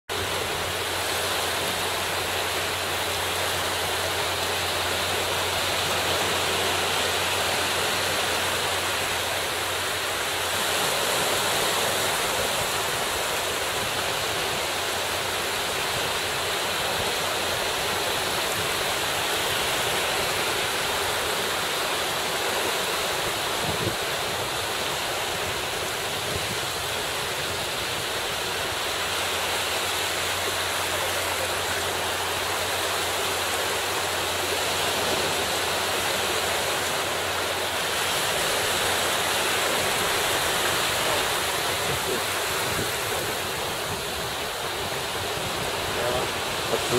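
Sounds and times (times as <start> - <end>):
small waves rushing: 0.1 - 46.9.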